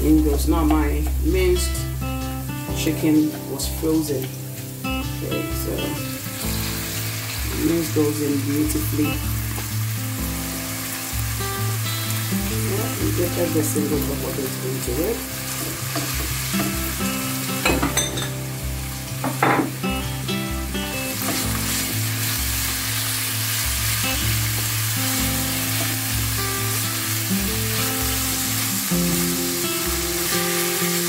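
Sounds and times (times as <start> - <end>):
meat sizzling in a pan: 0.0 - 31.0.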